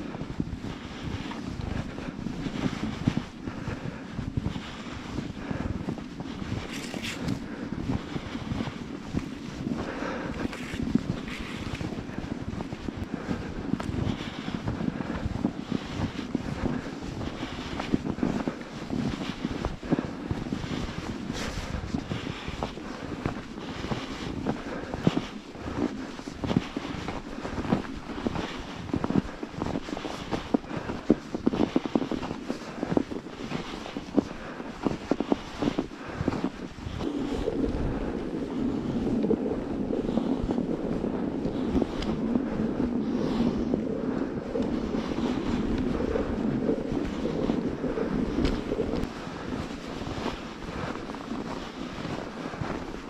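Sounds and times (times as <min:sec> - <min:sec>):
footsteps crunching in snow: 0:00.0 - 0:53.0
wind rumbling on microphone: 0:00.0 - 0:53.0.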